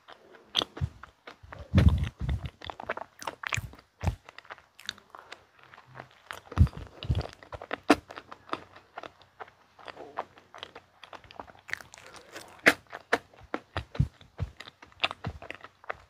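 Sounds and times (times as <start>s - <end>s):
biting and chewing pastry: 0.0s - 16.0s.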